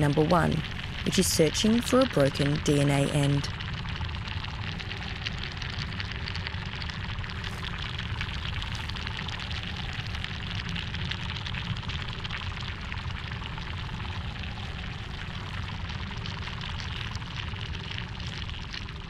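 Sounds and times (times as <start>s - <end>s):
dense crackling fizz: 0.0s - 19.0s
low rumble: 0.0s - 19.0s.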